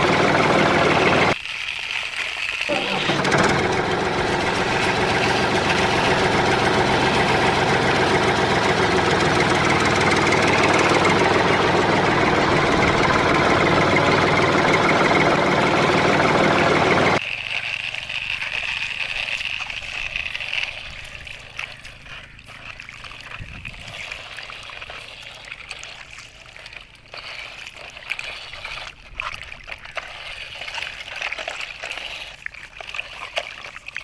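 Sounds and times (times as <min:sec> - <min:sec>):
shallow water splashing: 0:00.0 - 0:16.3, 0:16.9 - 0:34.0
toy trucks dragged through water: 0:00.0 - 0:34.0.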